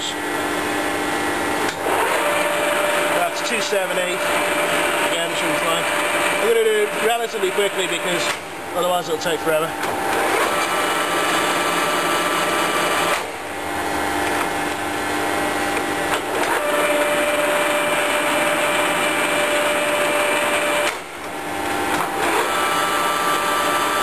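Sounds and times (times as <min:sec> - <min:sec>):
lathe gear whine: 0:00.0 - 0:24.0.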